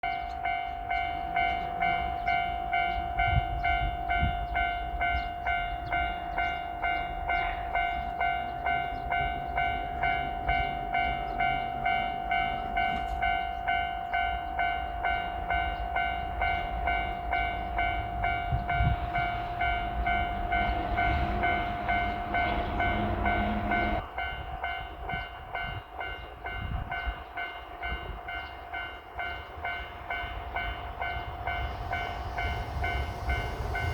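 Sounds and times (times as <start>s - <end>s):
level-crossing bell ringing: 0.0s - 33.9s
train rumbling and clattering: 0.0s - 33.9s.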